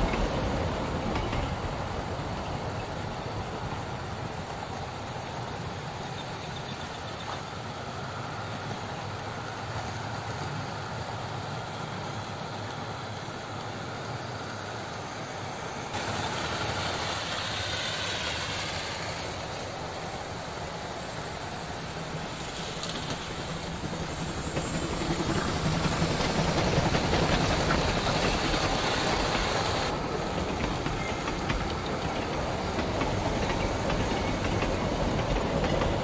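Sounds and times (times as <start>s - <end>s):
model trains running on track: 0.0s - 36.0s.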